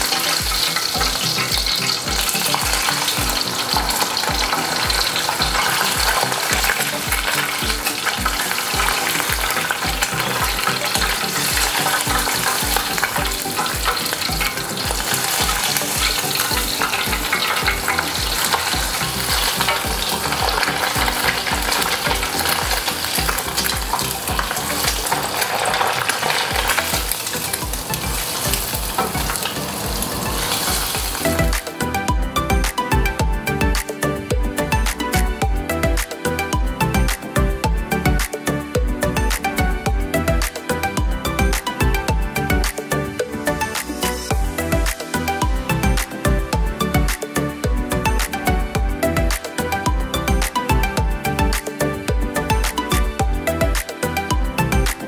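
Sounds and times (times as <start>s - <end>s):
hot oil sizzling: 0.0s - 55.0s.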